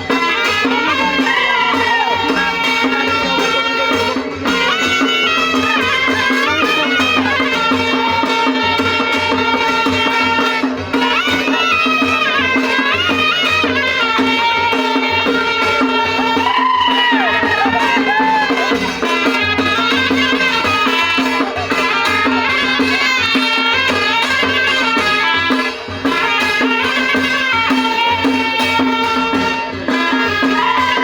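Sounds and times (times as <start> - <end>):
drum beat: 0.0 - 31.0
folk melody with bending notes: 0.0 - 31.0.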